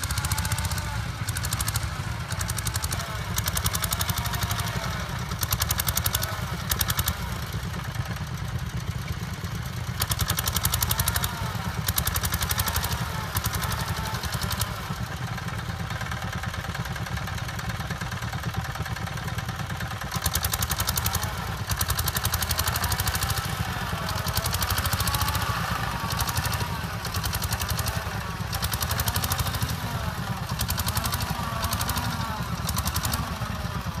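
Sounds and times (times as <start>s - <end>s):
engine clatter: 0.0s - 34.0s
tractor engine running: 0.0s - 34.0s.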